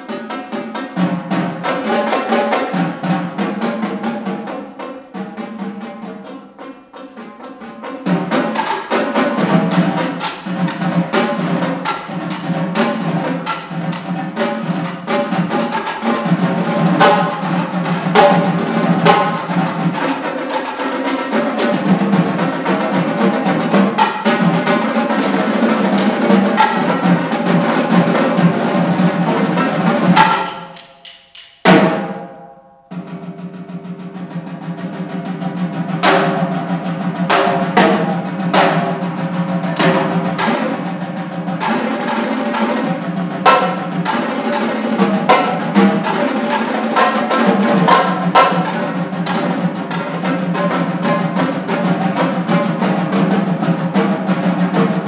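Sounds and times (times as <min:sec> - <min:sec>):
marching tenor drums: 0:00.0 - 0:55.0.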